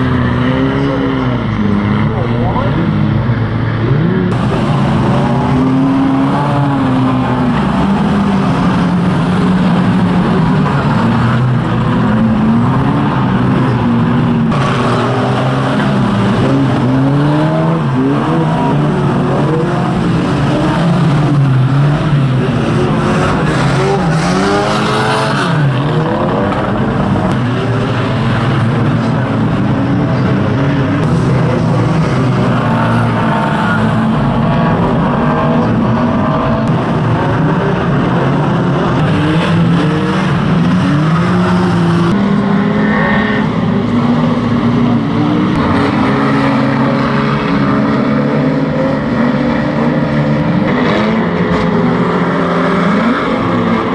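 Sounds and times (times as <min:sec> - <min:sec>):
racing car engines revving: 0:00.0 - 0:53.9.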